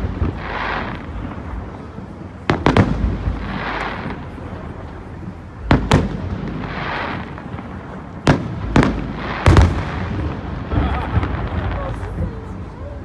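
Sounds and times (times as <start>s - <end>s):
fireworks bursting with rumbling tail: 0.0s - 13.0s.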